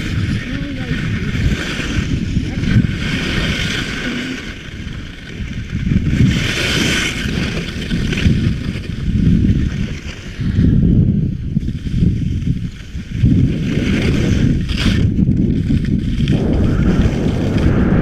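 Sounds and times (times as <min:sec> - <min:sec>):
skis scraping icy snow: 0:00.0 - 0:10.6, 0:11.6 - 0:18.0
wind buffeting microphone: 0:00.0 - 0:18.0.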